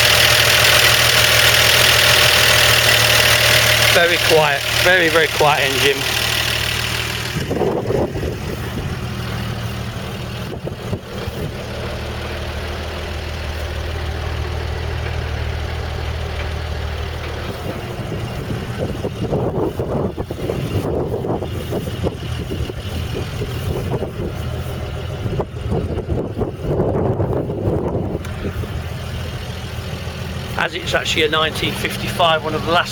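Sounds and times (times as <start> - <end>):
pickup engine idling quietly: 0.0 - 32.9.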